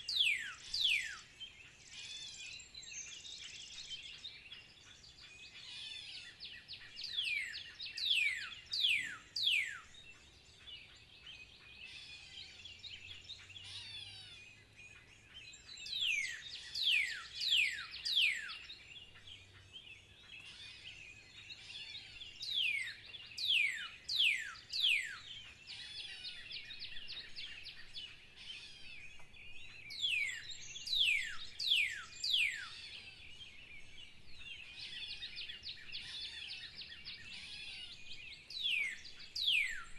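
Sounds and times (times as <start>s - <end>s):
other birds chirping: 0.0s - 39.9s.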